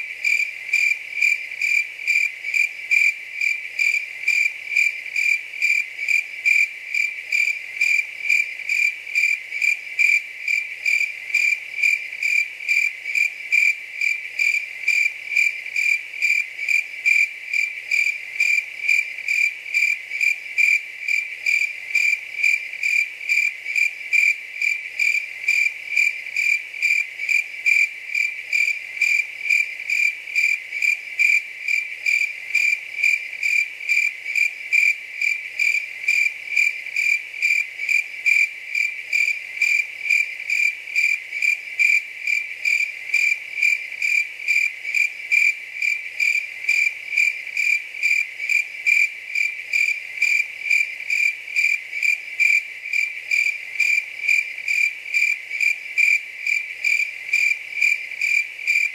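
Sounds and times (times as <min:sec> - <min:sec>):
cricket chirping: 0:00.0 - 0:58.9.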